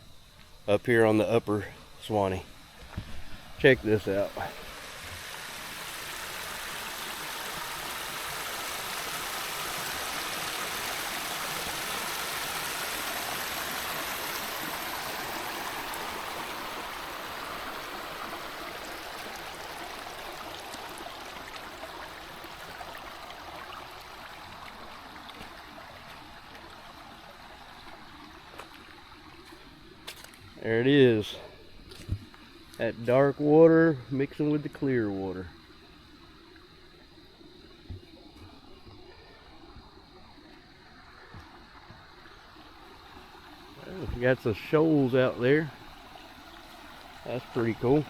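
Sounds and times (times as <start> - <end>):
water rushing and splashing: 2.1 - 48.0.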